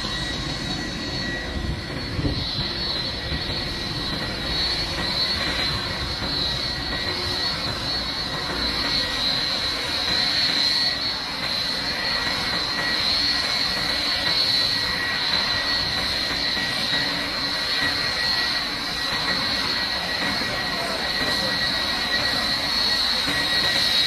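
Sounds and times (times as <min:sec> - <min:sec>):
jet engine rush: 0:00.0 - 0:24.0
jet engines whining: 0:00.0 - 0:24.0.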